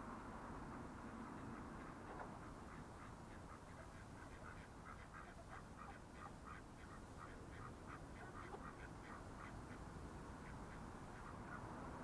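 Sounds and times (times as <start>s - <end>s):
ducks quacking: 1.4s - 12.0s.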